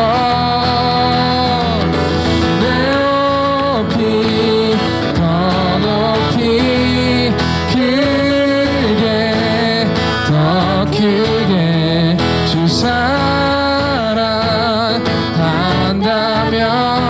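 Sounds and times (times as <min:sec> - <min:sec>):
guitar: 0:00.0 - 0:17.0
live band playing praise song: 0:00.0 - 0:17.0
people singing: 0:00.0 - 0:17.0.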